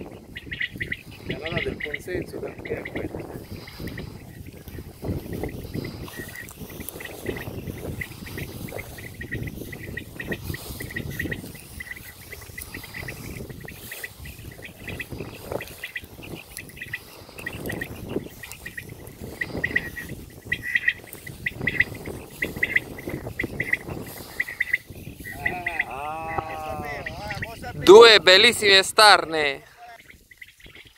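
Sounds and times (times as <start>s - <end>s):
low rumble of wind: 0.0s - 30.9s.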